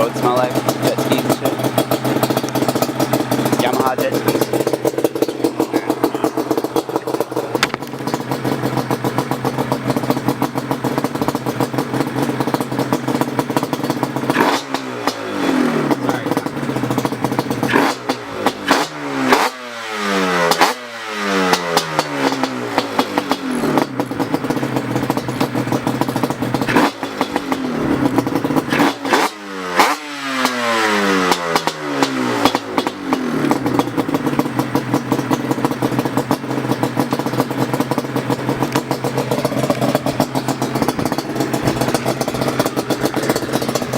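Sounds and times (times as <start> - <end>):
two-stroke engine idling and revving: 0.0 - 43.9.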